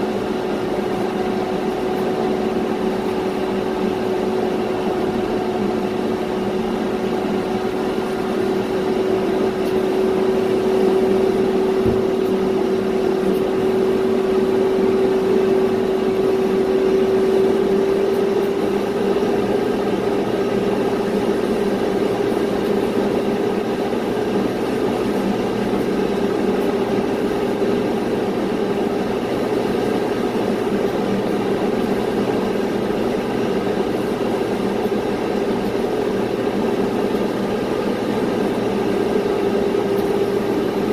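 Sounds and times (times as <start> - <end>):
aircraft auxiliary power unit: 0.0 - 40.9.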